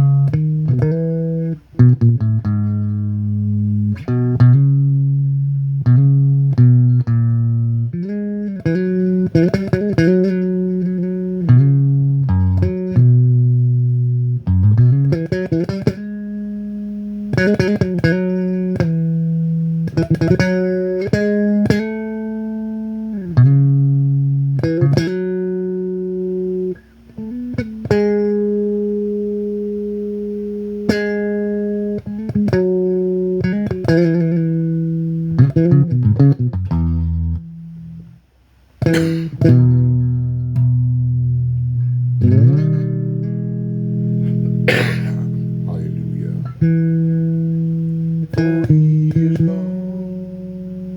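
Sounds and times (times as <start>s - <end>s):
electric bass guitar melody: 0.0s - 50.9s.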